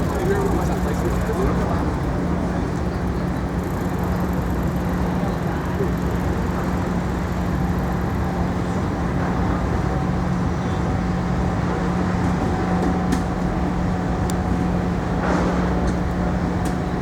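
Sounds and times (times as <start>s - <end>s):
city street traffic hum: 0.0s - 17.0s.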